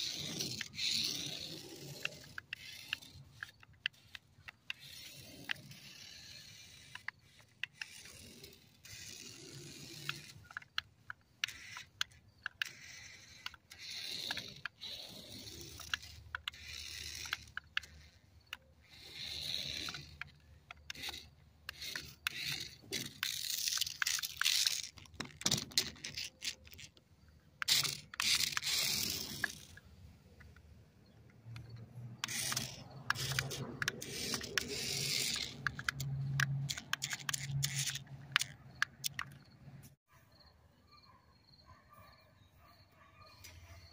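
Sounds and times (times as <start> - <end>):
toy car electric motor whirring: 0.0 - 40.0.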